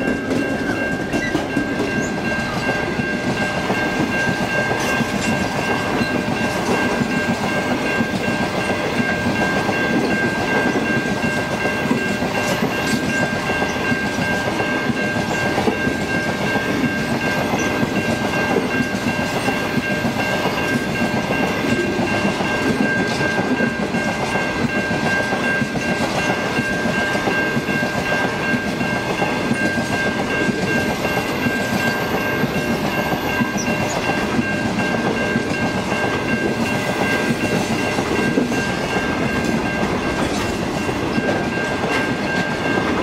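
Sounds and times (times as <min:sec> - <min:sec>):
high-pitched tone: 0:00.0 - 0:43.0
train wheels rumbling on track: 0:00.0 - 0:43.0.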